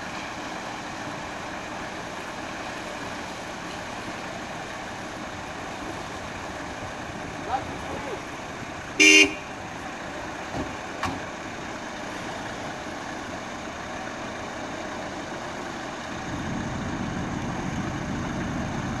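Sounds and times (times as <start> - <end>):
river water flowing: 0.0 - 16.2
off-road engines idling: 0.0 - 19.0
vehicle driving through water: 0.0 - 19.0.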